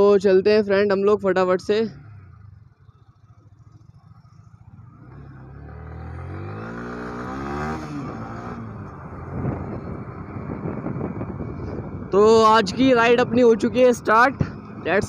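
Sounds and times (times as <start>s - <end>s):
motorcycle engine accelerating: 0.0s - 15.0s
road and wind noise: 0.0s - 15.0s.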